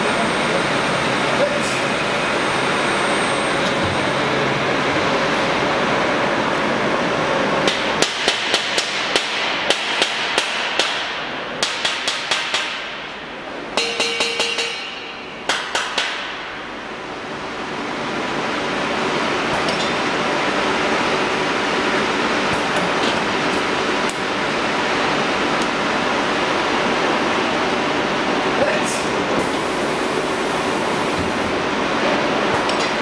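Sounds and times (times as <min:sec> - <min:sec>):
factory machinery hiss and hum: 0:00.0 - 0:33.0.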